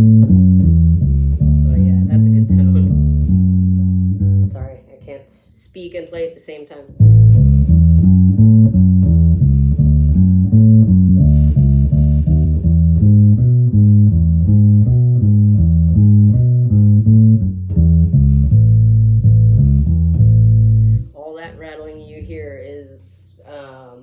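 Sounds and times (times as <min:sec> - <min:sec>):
electric bass plucked notes: 0:00.0 - 0:04.8, 0:07.0 - 0:22.8.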